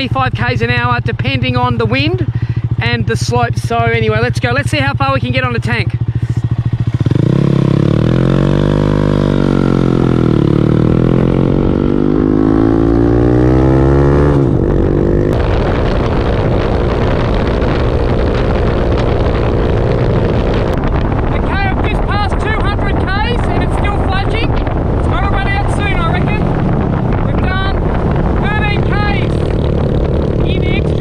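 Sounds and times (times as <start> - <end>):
motorcycle engine at full throttle: 0.0 - 31.0
wind noise on microphone: 0.0 - 31.0.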